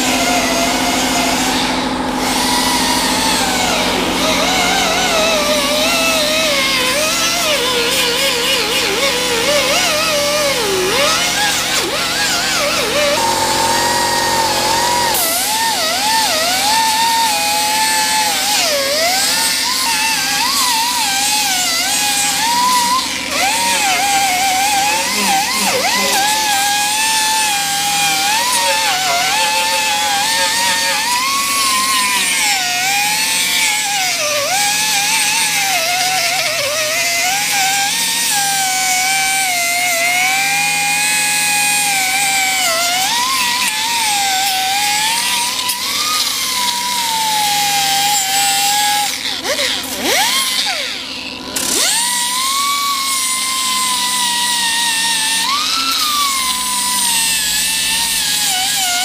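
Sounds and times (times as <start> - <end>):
pneumatic cut-off tool whining: 0.0 - 59.0.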